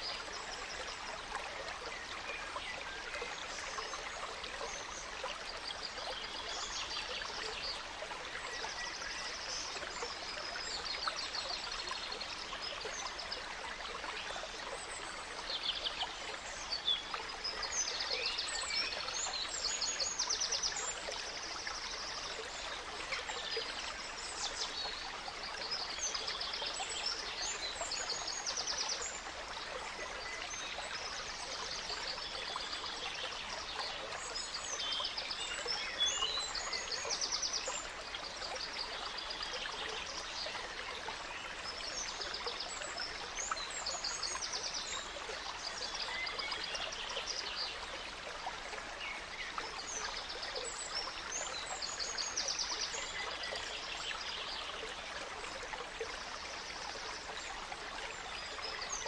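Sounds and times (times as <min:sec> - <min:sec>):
small stream flowing: 0:00.0 - 0:59.0.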